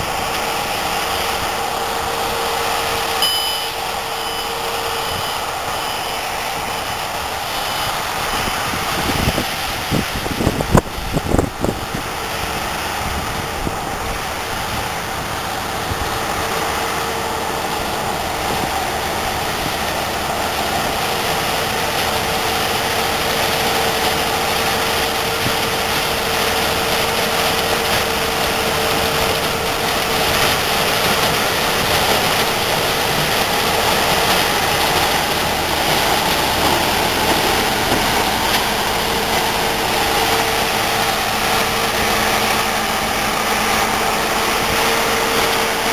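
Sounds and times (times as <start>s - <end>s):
combine harvester drone: 0.0s - 45.9s
constant machine whine: 0.0s - 45.9s.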